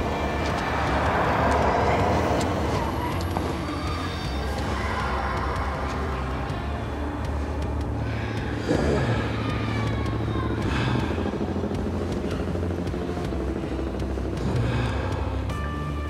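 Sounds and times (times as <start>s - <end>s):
rushing noise: 0.0s - 13.5s
low rumbling drone: 0.0s - 16.0s.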